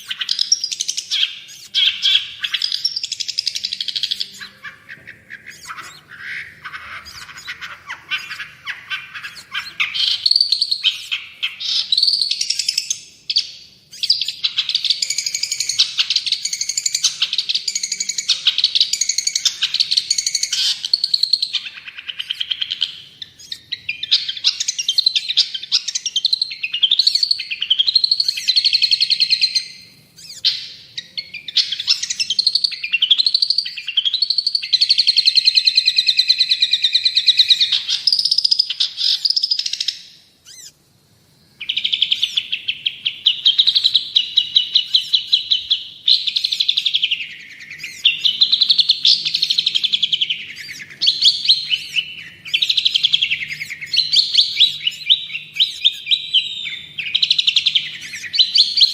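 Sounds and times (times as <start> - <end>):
bird singing chattering song: 0.0 - 40.8, 41.5 - 58.9.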